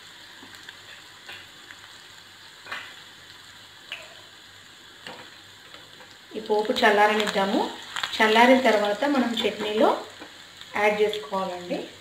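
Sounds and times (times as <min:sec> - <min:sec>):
hot oil sizzling: 0:00.0 - 0:12.0
sharp pops of frying: 0:00.0 - 0:12.0.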